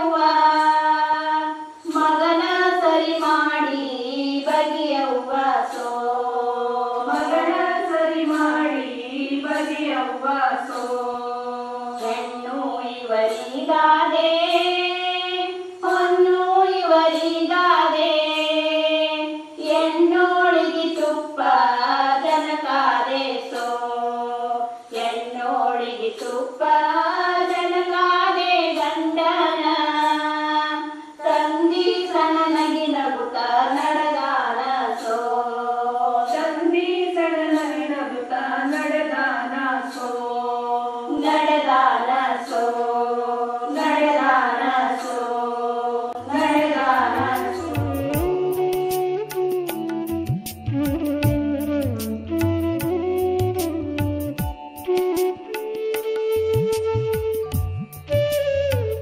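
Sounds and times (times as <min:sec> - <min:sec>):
women singing folk song: 0:00.0 - 0:49.2.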